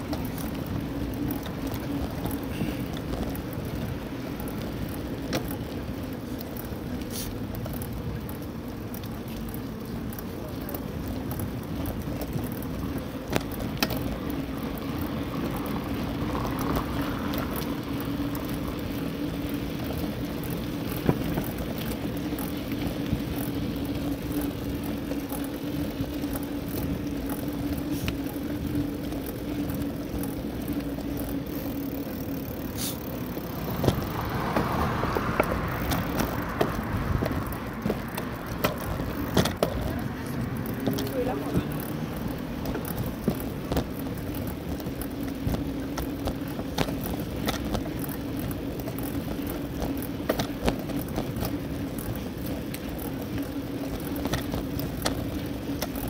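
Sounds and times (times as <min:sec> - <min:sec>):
bicycle rattles and knocks: 0:00.0 - 0:56.0
bicycle rolling on pavement: 0:00.0 - 0:56.0.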